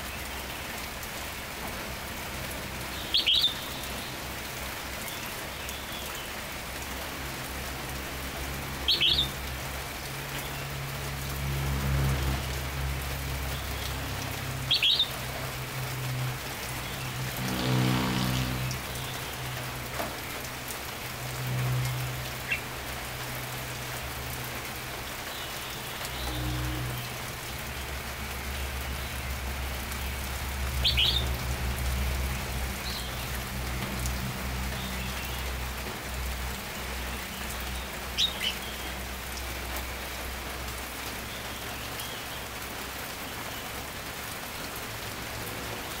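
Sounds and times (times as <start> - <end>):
steady patter of rain: 0.0 - 46.0.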